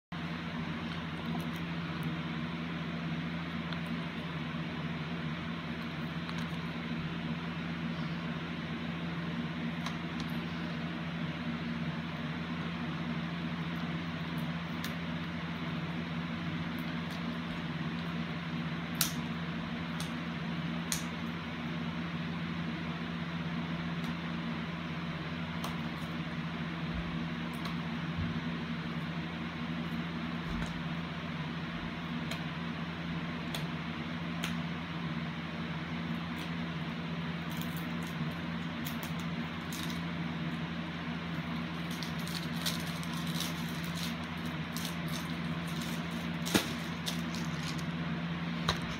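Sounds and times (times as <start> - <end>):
low hum: 0.1 - 48.9.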